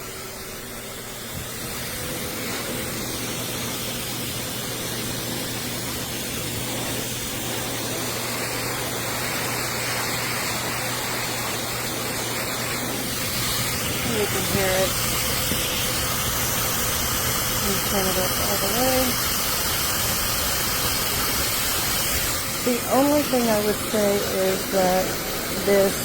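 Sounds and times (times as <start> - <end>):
hair dryer blowing air: 0.0 - 26.0
motor hum and whine: 0.0 - 26.0.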